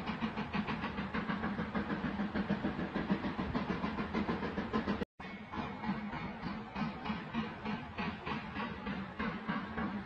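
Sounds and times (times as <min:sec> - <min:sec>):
train running with even beat: 0:00.0 - 0:10.0.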